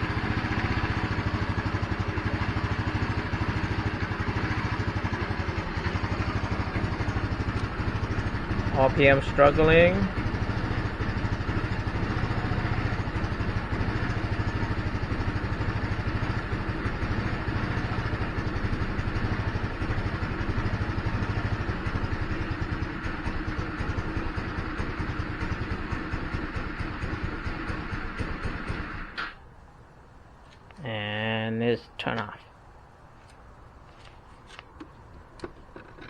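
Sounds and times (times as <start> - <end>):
scooter engine idling roughly: 0.0 - 29.3.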